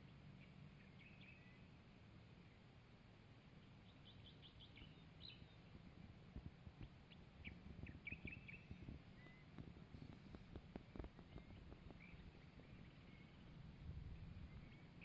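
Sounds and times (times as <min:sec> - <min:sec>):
birds chirping: 0:00.0 - 0:01.8, 0:03.5 - 0:06.1, 0:06.7 - 0:15.0.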